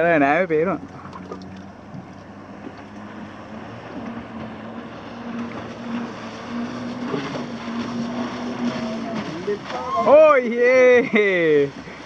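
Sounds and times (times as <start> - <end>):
water noise: 0.0 - 12.0
watercraft engine drone: 0.0 - 12.0
wind: 0.0 - 12.0.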